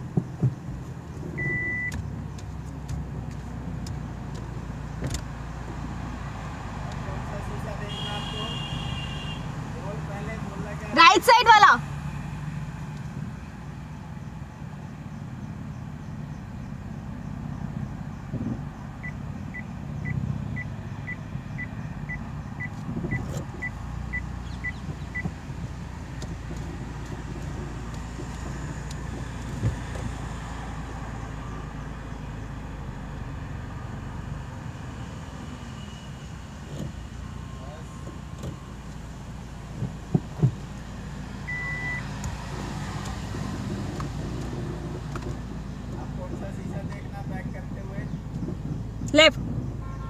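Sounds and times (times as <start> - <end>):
car engine low hum: 0.0 - 50.0.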